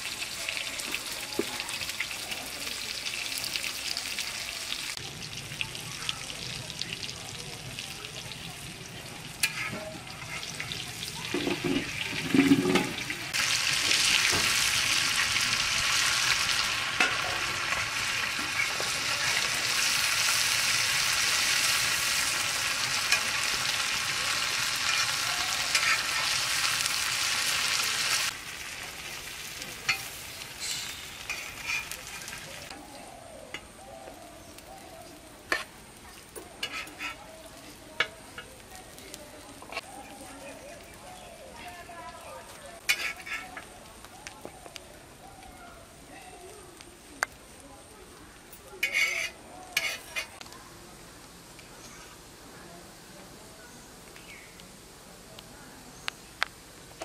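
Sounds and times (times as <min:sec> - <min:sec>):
fritters sizzling in oil: 0:00.0 - 0:57.0.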